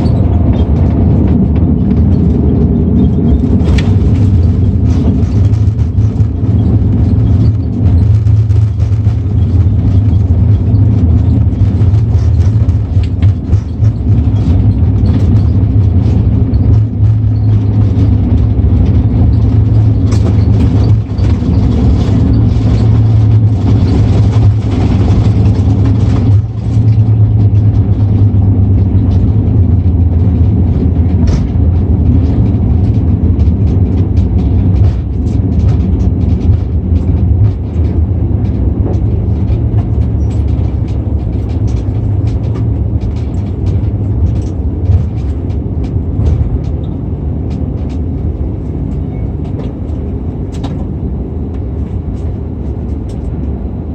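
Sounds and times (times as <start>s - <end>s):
cabin rattles and knocks: 0.0s - 53.6s
airliner engine and airflow rumble: 0.0s - 53.9s.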